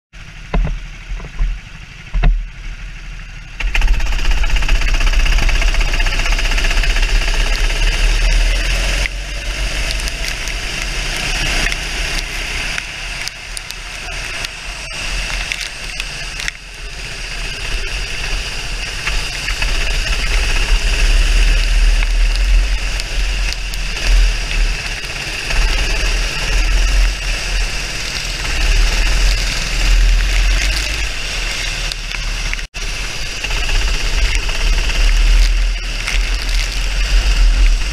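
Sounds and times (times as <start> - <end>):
racing kart engine: 0.2 - 37.9.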